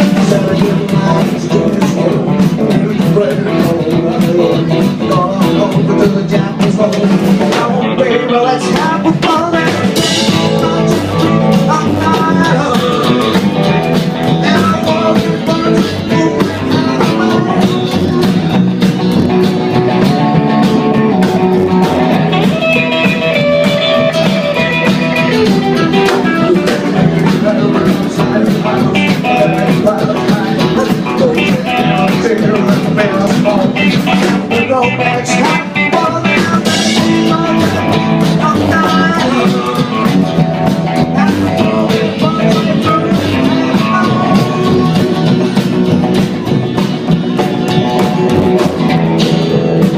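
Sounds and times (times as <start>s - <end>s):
drum kit playing: 0.0s - 49.9s
electric guitar playing: 0.0s - 49.9s.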